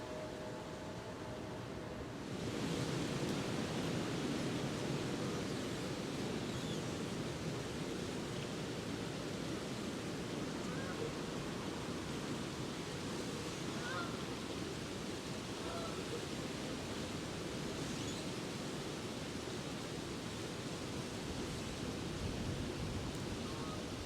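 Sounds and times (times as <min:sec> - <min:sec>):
wind through bare trees: 0:00.0 - 0:24.0.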